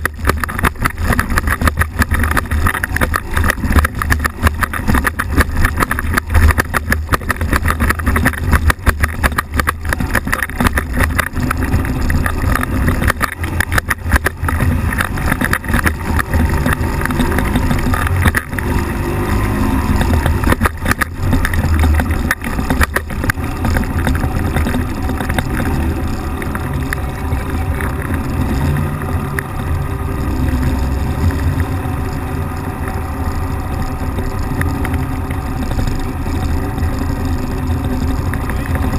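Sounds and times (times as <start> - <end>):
ultralight engine and propeller: 0.0 - 38.9.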